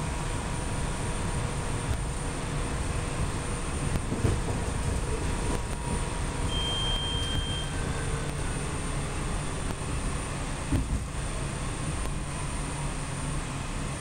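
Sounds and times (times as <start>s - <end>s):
train running on track: 0.0s - 14.0s.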